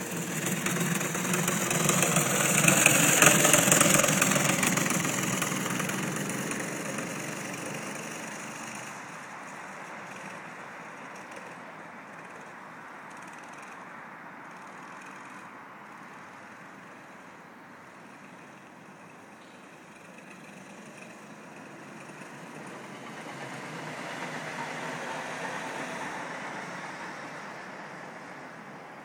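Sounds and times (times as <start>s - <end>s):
passing train rumble: 0.0s - 29.0s.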